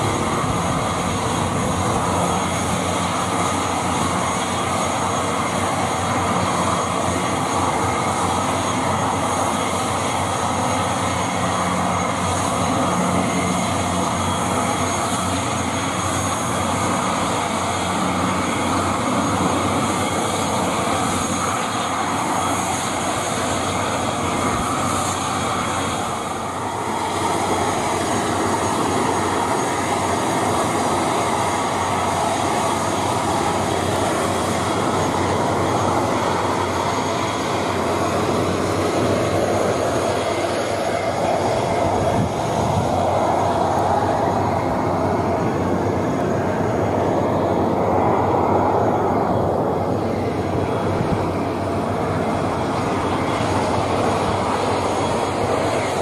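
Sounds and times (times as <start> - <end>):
turboprop engines droning with whine: 0.0 - 56.0.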